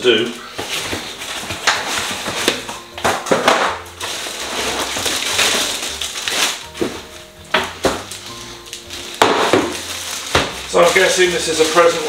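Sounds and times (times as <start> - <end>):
cardboard and plastic rustling: 0.0 - 12.0.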